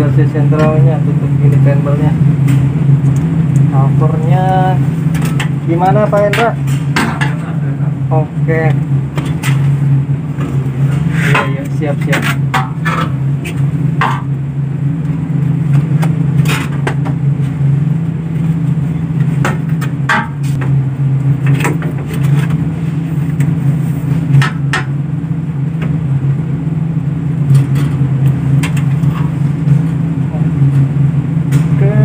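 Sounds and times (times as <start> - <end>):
blower humming: 0.0 - 32.0.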